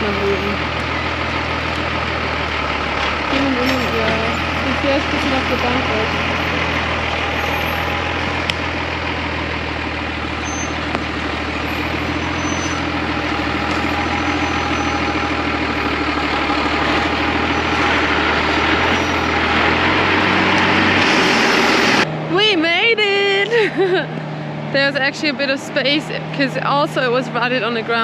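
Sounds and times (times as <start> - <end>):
diesel truck engine at low revs: 0.0 - 28.0.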